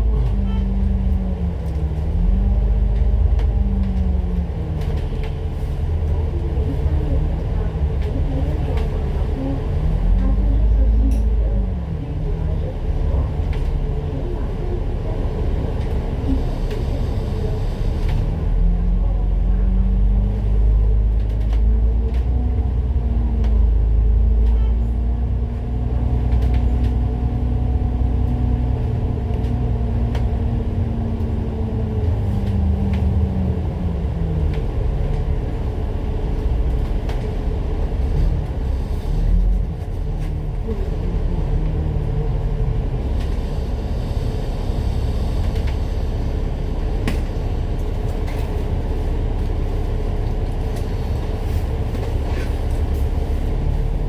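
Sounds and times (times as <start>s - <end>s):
bus engine running: 0.0s - 54.0s
bus rumble and rattles: 0.0s - 54.0s.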